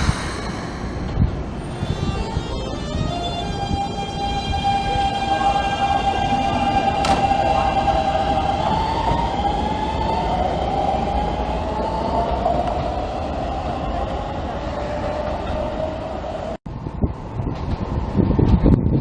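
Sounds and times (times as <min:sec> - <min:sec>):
train passing on rails: 0:00.0 - 0:19.0
wind on microphone: 0:00.0 - 0:19.0.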